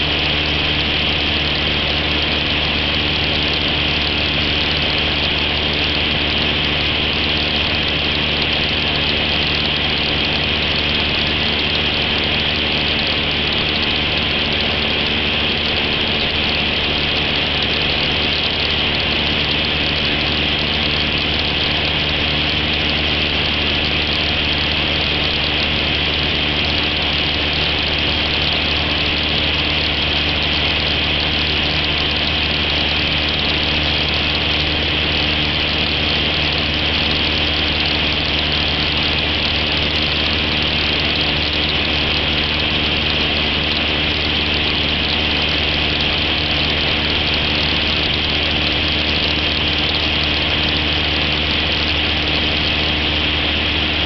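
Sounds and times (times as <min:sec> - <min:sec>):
airplane engine drone in cabin: 0:00.0 - 0:54.0.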